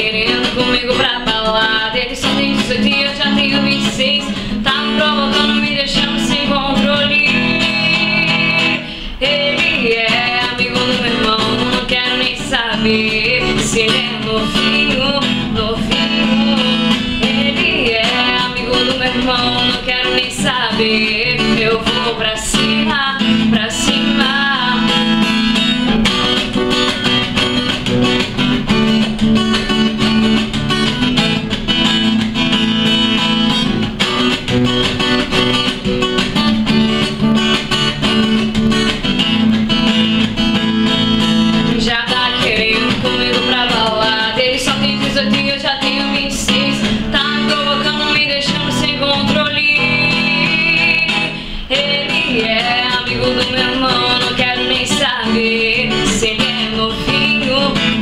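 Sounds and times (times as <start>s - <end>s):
woman singing: 0.0s - 30.8s, 35.0s - 58.0s
acoustic guitar strumming: 0.0s - 58.0s.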